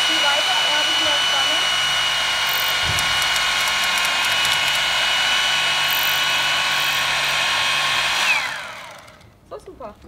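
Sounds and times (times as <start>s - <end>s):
electric knife cutting foam: 0.0s - 9.3s.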